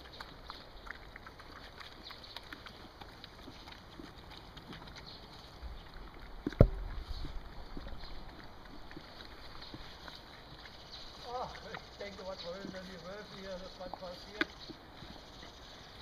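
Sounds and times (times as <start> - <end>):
puppies chewing and licking: 0.0 - 16.0.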